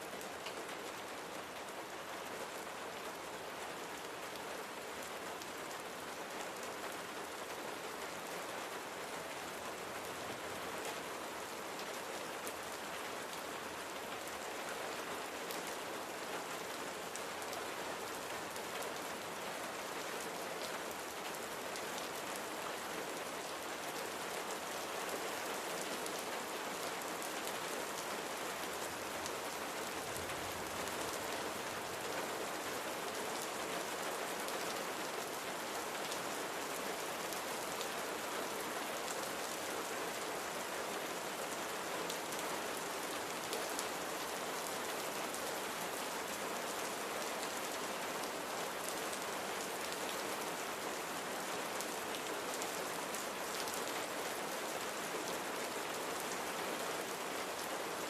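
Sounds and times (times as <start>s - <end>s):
rain pattering: 0.1s - 55.4s.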